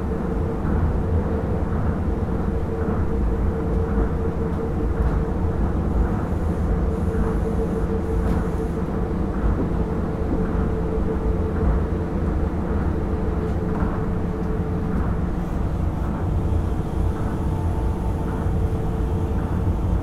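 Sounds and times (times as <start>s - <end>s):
continuous low rumble: 0.0s - 20.0s
steady whine: 0.0s - 20.0s.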